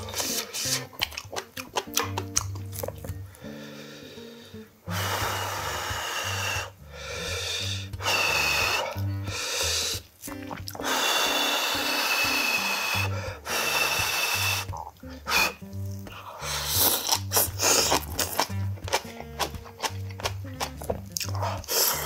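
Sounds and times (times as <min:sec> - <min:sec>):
light background music: 0:00.0 - 0:22.0
person blowing on food: 0:00.0 - 0:22.0.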